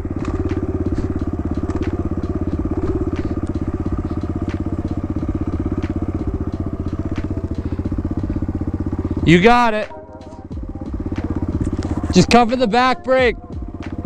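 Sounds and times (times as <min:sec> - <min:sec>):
dirt bike engine idling: 0:00.0 - 0:14.0.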